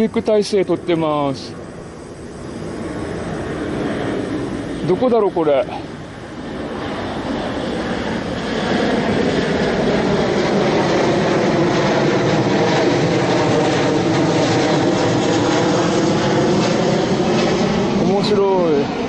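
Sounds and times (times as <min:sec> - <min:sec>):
airliner engine roar overhead: 0:00.0 - 0:19.0.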